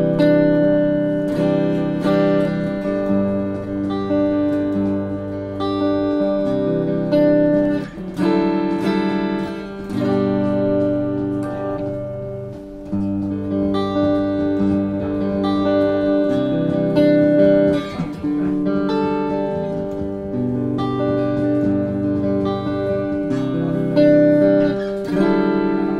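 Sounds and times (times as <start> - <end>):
clean electric guitar chords: 0.0 - 25.9.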